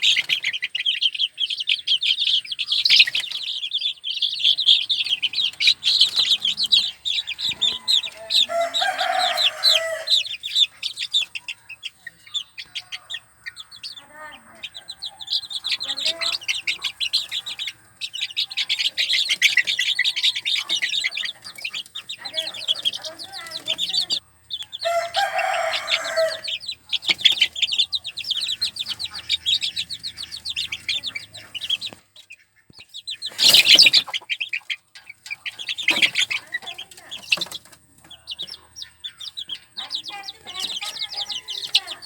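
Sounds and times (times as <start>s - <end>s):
baby chicks peeping: 0.0s - 42.0s
chicken calling: 0.0s - 42.0s
chicken clucking: 0.0s - 42.0s.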